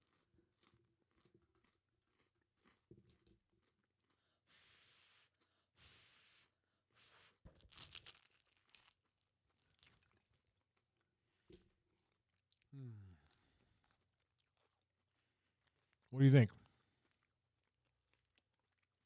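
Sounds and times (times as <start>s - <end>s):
soft chewing with mouth clicks: 0.0s - 19.0s.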